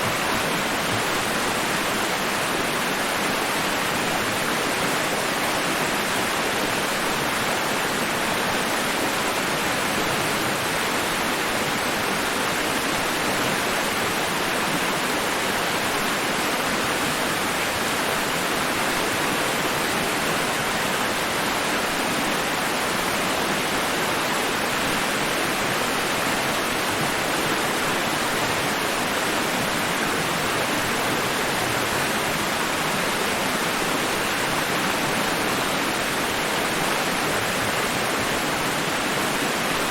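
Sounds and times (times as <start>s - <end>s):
white-noise hiss: 0.0s - 39.9s.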